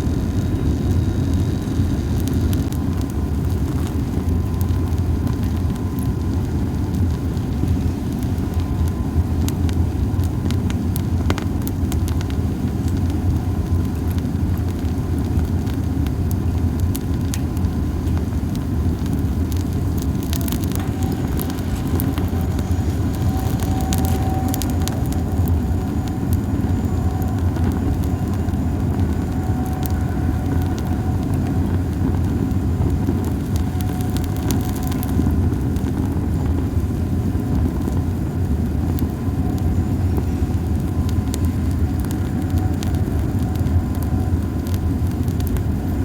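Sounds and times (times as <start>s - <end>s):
campfire crackling and popping: 0.0s - 46.0s
steady low rumble: 0.0s - 46.0s.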